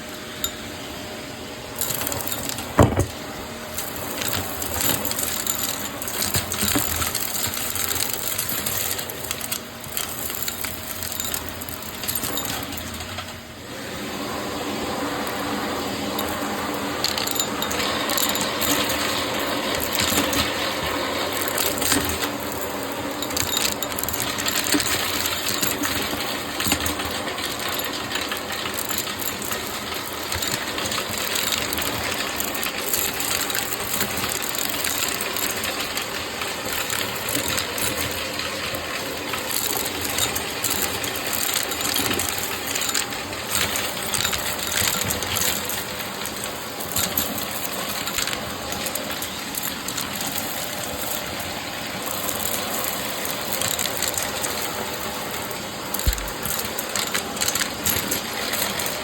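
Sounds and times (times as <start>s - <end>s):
vacuum cleaner running: 0.0s - 53.6s.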